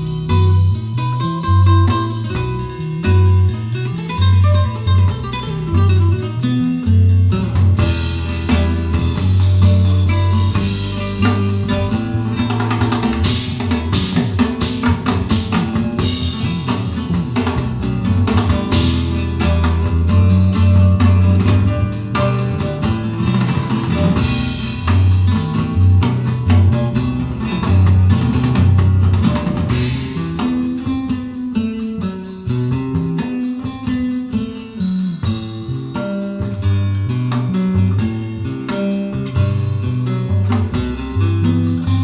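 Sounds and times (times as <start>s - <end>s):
guitar music through loudspeakers: 0.0s - 42.0s.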